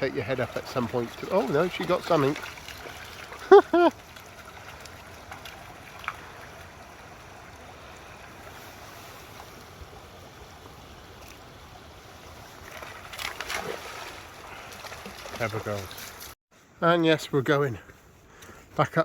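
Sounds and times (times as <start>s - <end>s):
stream running over stones: 0.0s - 16.4s.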